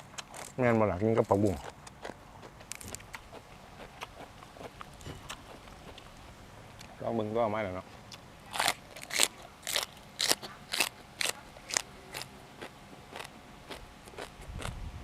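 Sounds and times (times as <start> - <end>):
crunching of raw vegetables chewed: 0.0 - 7.0, 8.1 - 15.0.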